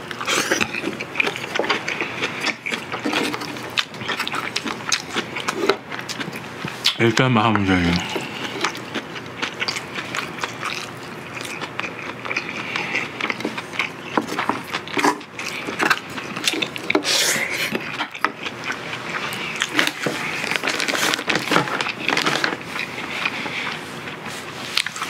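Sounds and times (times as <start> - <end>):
man chewing with wet smacking: 0.0 - 25.0.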